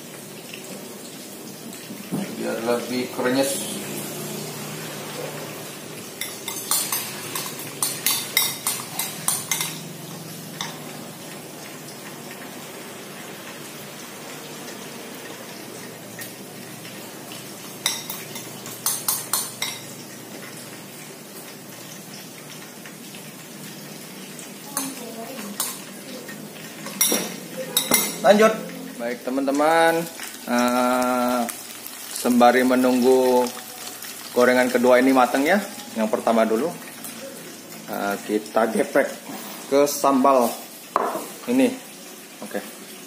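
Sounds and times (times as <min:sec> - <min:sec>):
fish sizzling in hot oil: 0:00.0 - 0:43.0.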